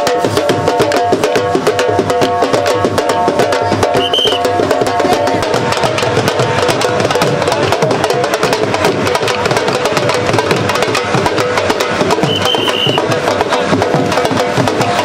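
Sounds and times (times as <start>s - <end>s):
barrel drums beaten fast: 0.0s - 15.0s.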